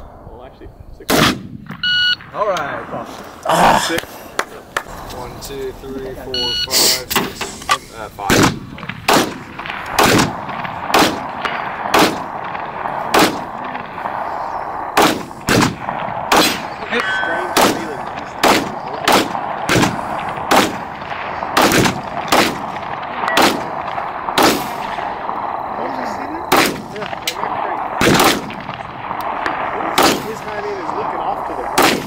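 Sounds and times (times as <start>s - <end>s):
rifle shots: 1.0s - 3.0s, 8.0s - 32.0s.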